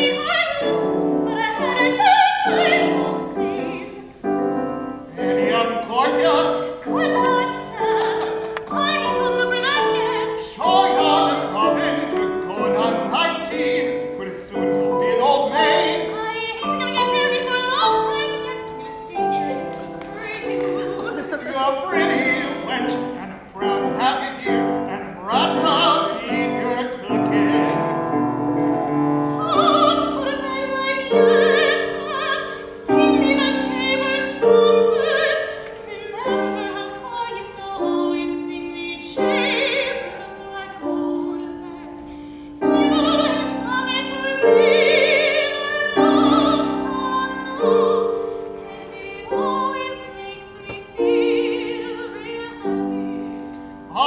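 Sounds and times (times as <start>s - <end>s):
operatic singing with vibrato: 0.0s - 54.0s
piano accompaniment: 0.0s - 54.0s.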